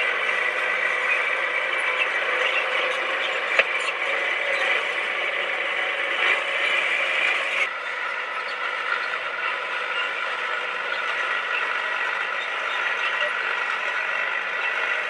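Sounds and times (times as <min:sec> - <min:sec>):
bulldozer clattering: 0:00.0 - 0:15.0.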